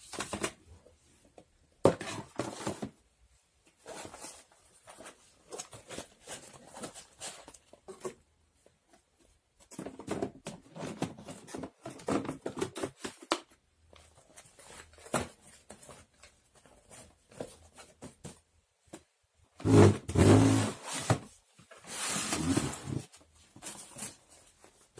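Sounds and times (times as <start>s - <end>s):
objects rustling and tapping: 0.1s - 24.9s.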